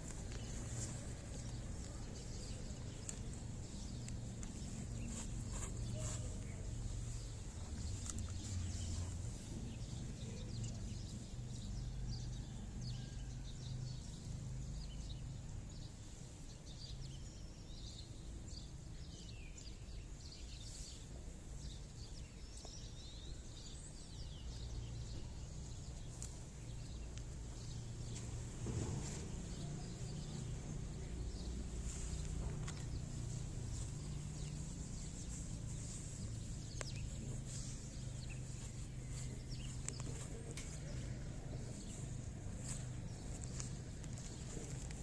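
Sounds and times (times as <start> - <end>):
low outdoor rumble: 0.0 - 16.7, 23.1 - 45.0
small birds chirping: 0.0 - 45.0.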